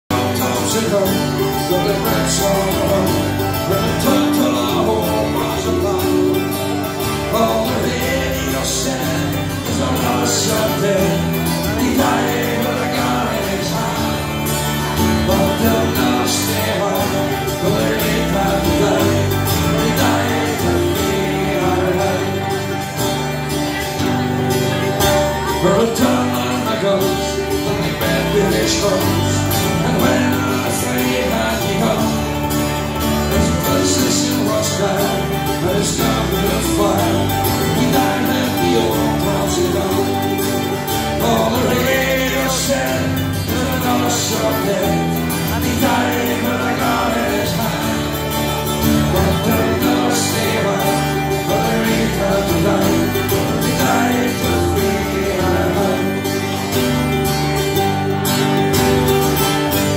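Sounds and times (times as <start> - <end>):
bass guitar: 0.0 - 59.9
mandolin: 0.0 - 59.9
strummed acoustic guitar: 0.0 - 59.9
man singing: 0.1 - 59.9.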